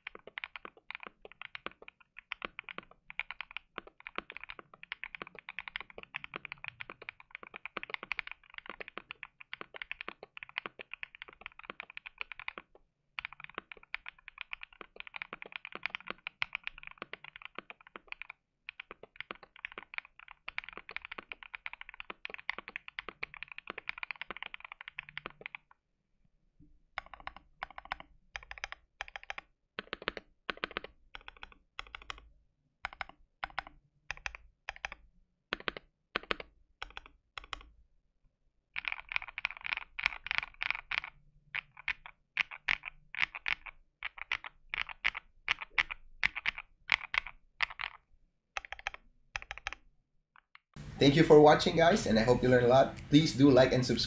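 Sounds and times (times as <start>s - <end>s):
mechanical keyboard typing: 0.0s - 25.7s, 27.0s - 37.8s, 38.8s - 48.0s, 48.6s - 49.8s.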